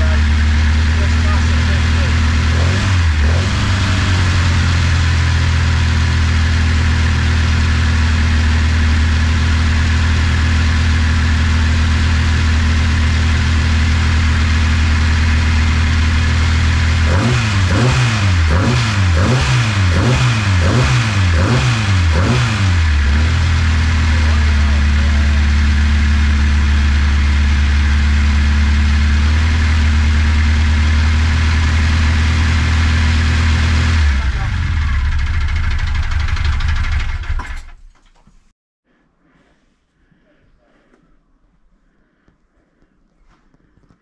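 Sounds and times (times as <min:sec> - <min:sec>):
car engine running and revving: 0:00.0 - 0:37.8.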